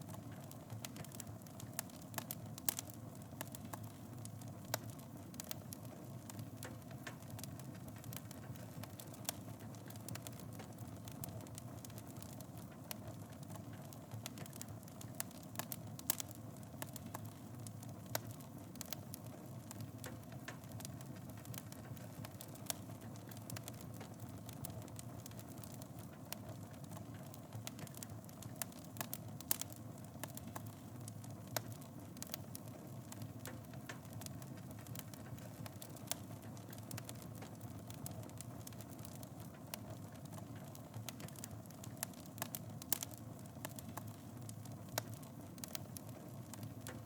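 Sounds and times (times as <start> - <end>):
fire crackling and hissing: 0.0 - 47.0.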